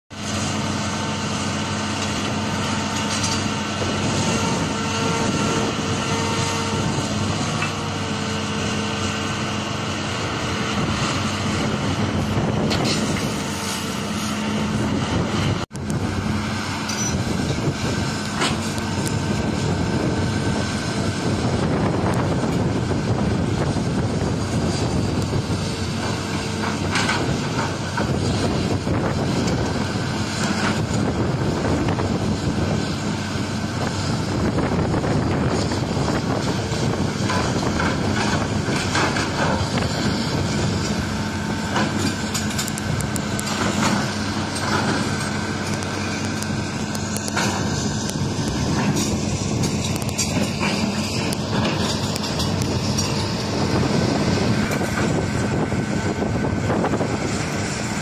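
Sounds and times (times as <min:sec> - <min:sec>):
diesel engine running: 0:00.1 - 0:58.0
hydraulic whine: 0:00.1 - 0:58.0.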